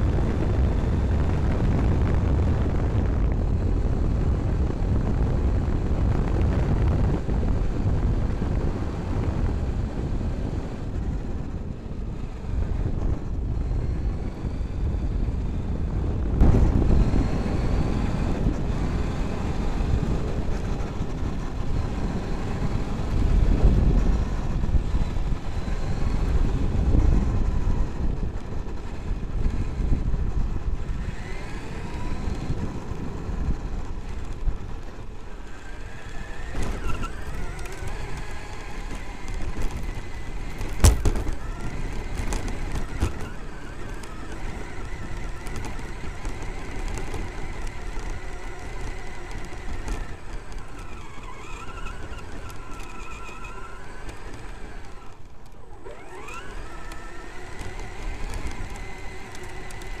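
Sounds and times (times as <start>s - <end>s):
electric motor whine: 0.0s - 60.0s
tyres rumbling on ground: 0.0s - 60.0s.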